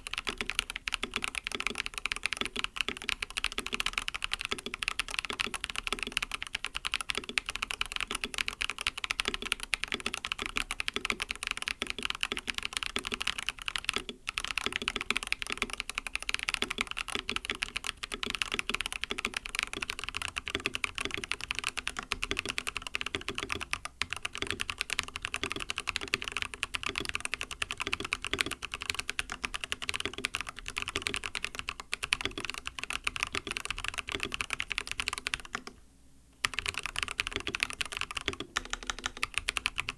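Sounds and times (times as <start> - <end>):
fast typing on mechanical keyboard: 0.0 - 35.8, 36.4 - 39.9.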